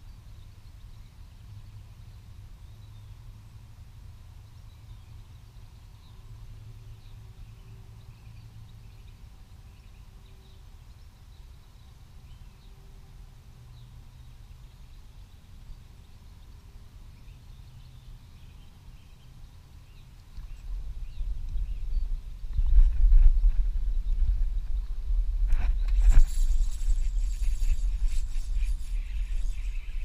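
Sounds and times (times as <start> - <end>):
low steady rumble: 0.0 - 30.0.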